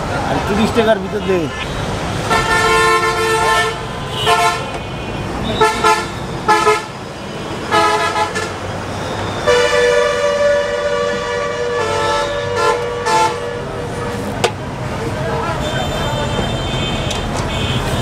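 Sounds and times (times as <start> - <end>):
traffic noise: 0.0 - 18.0
vehicle horns honking: 0.5 - 14.3, 15.3 - 18.0.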